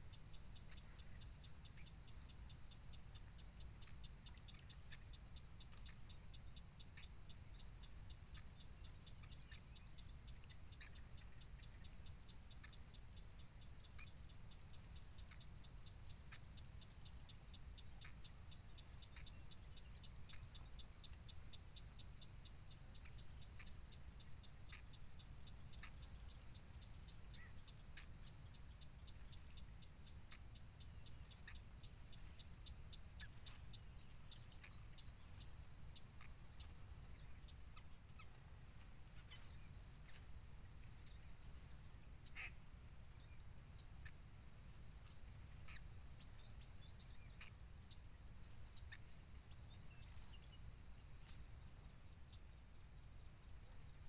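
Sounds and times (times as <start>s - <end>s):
bird chirps: 0.0s - 54.0s.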